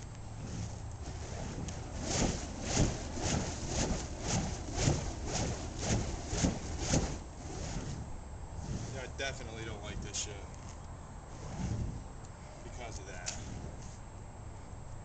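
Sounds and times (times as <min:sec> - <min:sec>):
fire poi whooshing: 0:00.0 - 0:10.5, 0:11.1 - 0:14.3.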